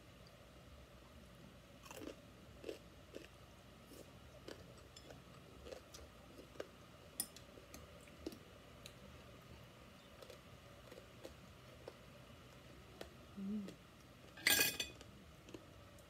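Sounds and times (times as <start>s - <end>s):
faint chewing with crunches: 1.8s - 14.4s, 15.0s - 16.0s.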